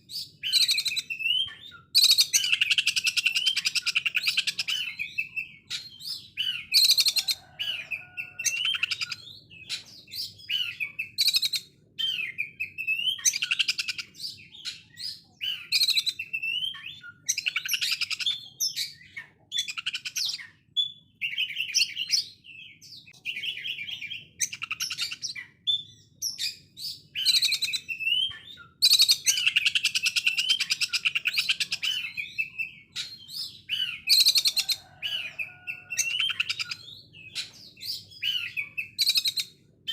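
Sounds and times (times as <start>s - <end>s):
bird whistles: 0.0s - 22.3s, 23.3s - 39.9s.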